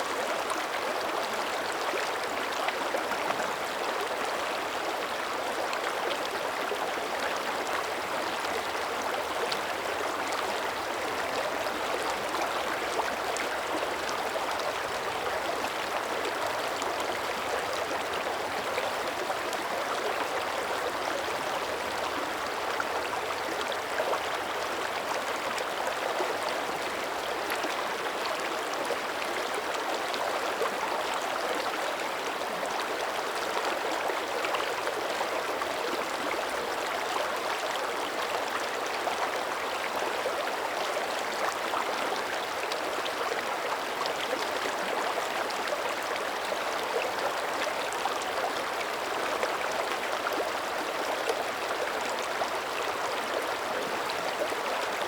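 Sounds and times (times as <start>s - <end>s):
creek gurgling over rocks: 0.0s - 55.0s.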